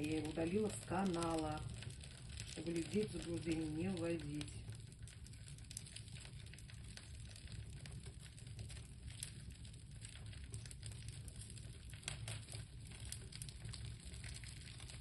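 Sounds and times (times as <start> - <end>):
low steady rumble: 0.0 - 15.0
small fire crackling: 0.0 - 15.0.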